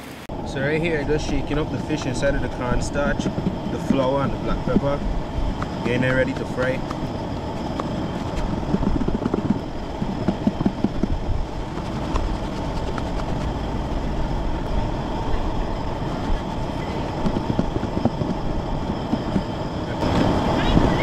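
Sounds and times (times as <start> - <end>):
low rumble: 0.3 - 21.0.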